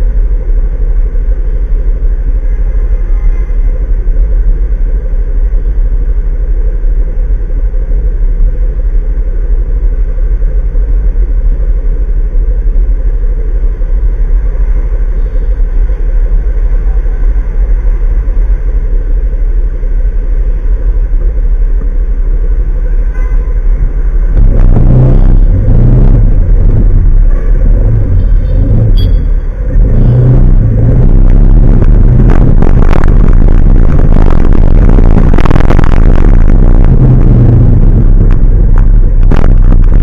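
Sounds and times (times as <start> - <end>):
vehicle low rumble: 0.0 - 40.0.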